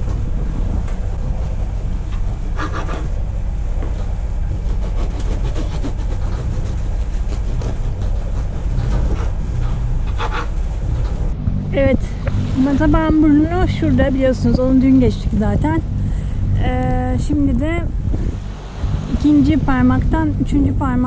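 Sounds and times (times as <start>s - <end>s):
boat diesel engine droning: 0.0s - 21.0s.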